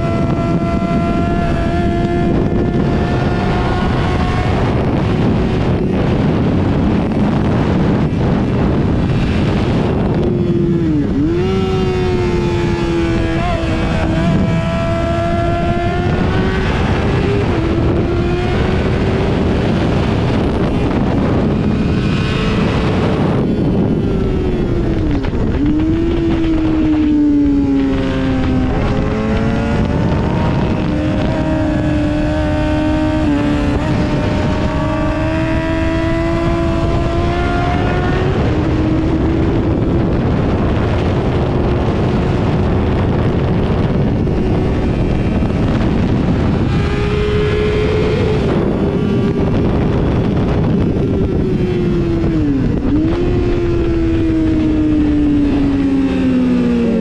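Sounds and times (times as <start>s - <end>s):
motorcycle engine revving: 0.0s - 57.0s
wind rush on microphone: 0.0s - 57.0s.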